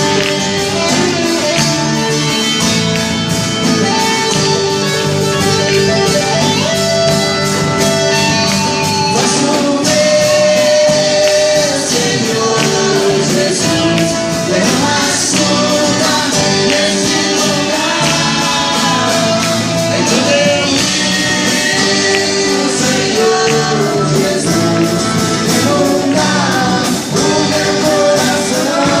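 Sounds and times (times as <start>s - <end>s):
gospel group singing with band: 0.0s - 29.0s.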